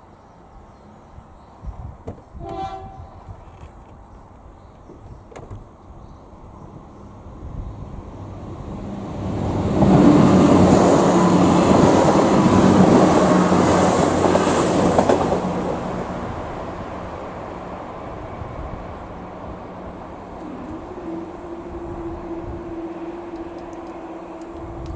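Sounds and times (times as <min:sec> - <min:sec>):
train engine hum: 0:00.0 - 0:24.9.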